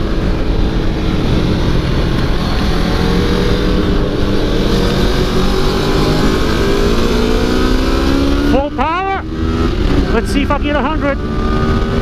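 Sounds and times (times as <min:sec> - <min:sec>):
heavy wind noise: 0:00.0 - 0:12.0
motorcycle engine at speed: 0:00.0 - 0:12.0.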